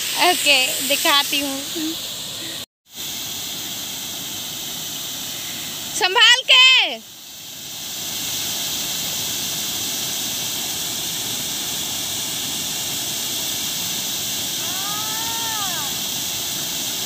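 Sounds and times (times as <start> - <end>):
water pouring down spillway: 0.0 - 17.0.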